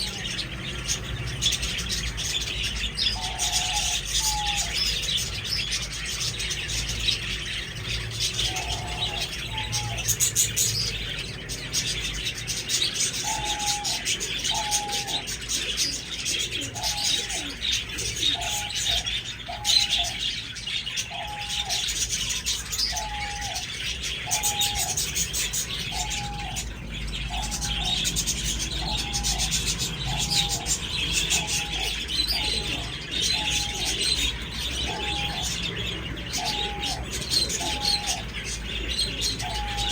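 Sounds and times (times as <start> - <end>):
budgerigars chattering and chirping: 0.0 - 39.9
low cooing call: 0.0 - 39.9.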